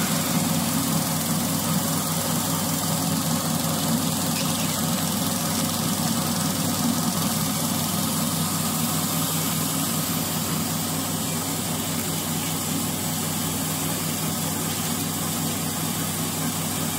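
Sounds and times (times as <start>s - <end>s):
constant hiss: 0.0s - 16.9s
machine hum: 0.0s - 16.9s.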